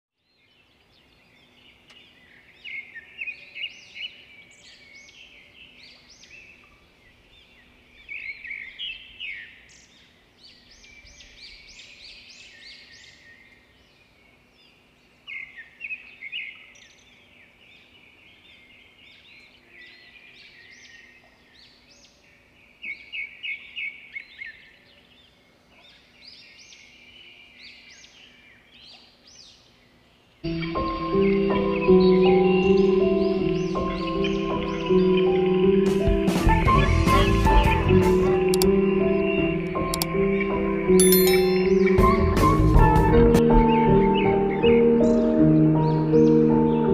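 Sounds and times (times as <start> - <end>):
birds chirping: 0.3 - 42.2.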